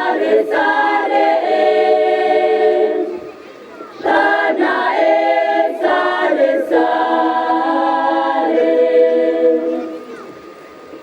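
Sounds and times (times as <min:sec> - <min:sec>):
choir singing in harmony: 0:00.0 - 0:03.4, 0:04.0 - 0:10.3.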